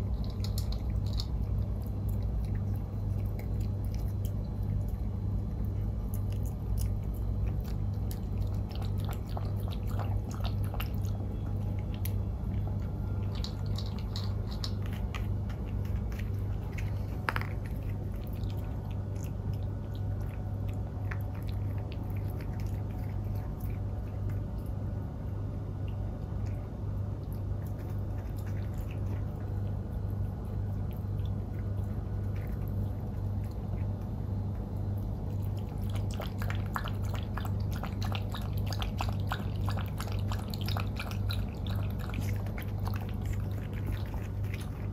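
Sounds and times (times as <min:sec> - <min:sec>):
puppy chewing food: 0:00.0 - 0:44.9
steady low hum: 0:00.0 - 0:44.9.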